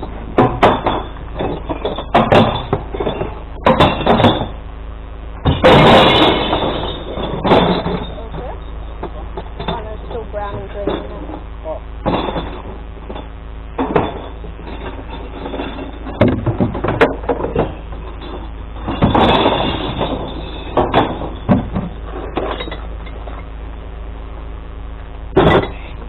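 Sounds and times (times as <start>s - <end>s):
truck engine humming: 0.0s - 26.0s
glass clattering and knocks: 0.4s - 4.6s, 5.4s - 11.4s, 12.0s - 23.4s, 25.4s - 25.9s.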